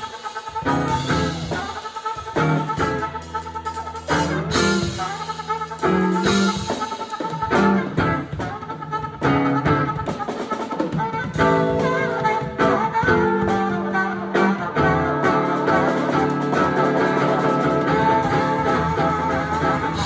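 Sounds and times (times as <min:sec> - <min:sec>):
bass: 0:00.0 - 0:10.1, 0:11.2 - 0:20.0
drum kit: 0:00.0 - 0:20.0
horn section chords and stabs: 0:00.0 - 0:20.0.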